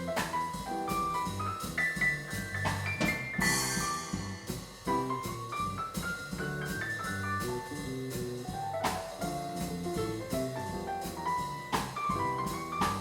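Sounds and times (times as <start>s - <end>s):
bass line: 0.0s - 13.0s
drum kit with cymbal strokes: 0.0s - 13.0s
jazz quartet playing: 0.0s - 13.0s.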